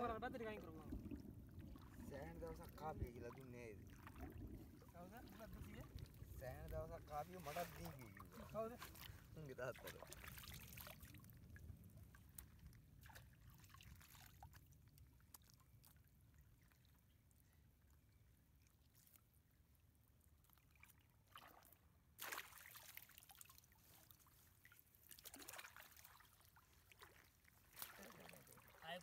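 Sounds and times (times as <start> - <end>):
small water splashes: 0.0 - 29.0
water trickling and sloshing: 0.0 - 29.0.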